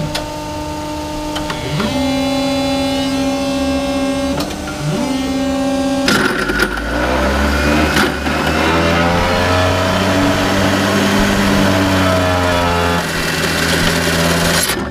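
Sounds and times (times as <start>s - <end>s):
forklift engine running: 0.0s - 14.9s.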